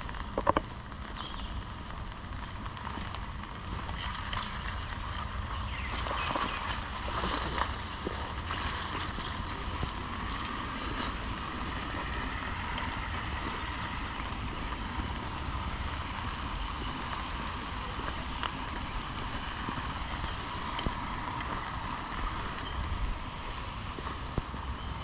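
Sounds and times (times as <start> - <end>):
rain falling on foliage: 0.0 - 25.0.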